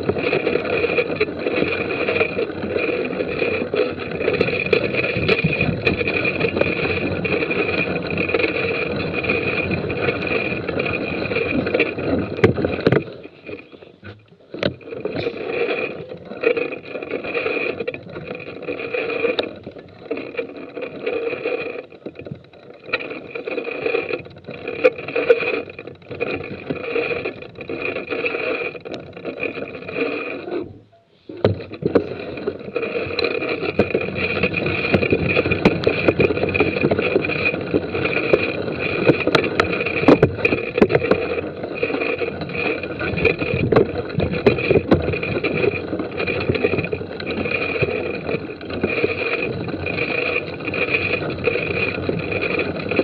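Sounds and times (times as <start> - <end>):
bike rattling over trail: 0.0 - 53.0.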